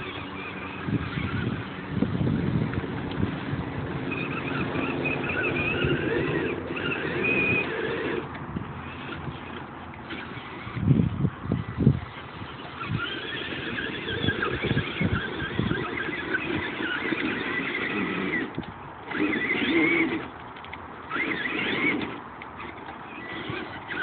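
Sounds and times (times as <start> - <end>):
electric motors whining: 0.0 - 24.0
truck rumbling over rough dirt: 0.0 - 24.0.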